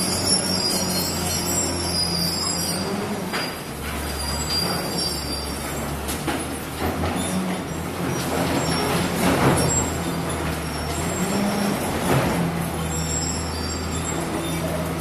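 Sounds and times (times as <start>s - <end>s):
diesel loader engine running: 0.0s - 15.0s.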